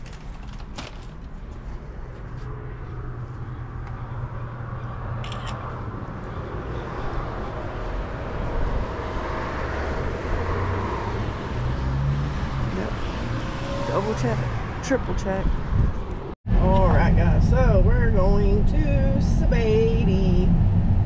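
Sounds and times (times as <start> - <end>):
motor vehicle humming: 0.0 - 21.0.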